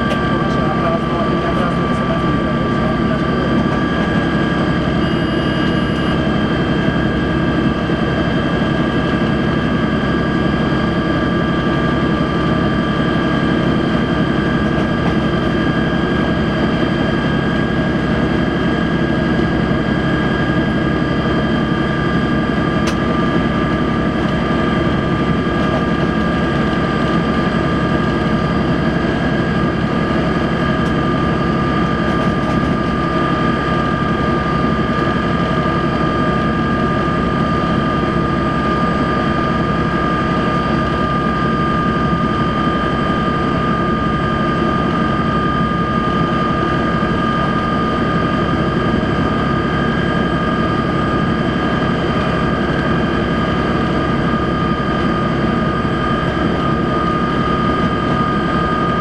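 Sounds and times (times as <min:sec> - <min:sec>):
locomotive cab drone with high whine: 0:00.0 - 0:59.0.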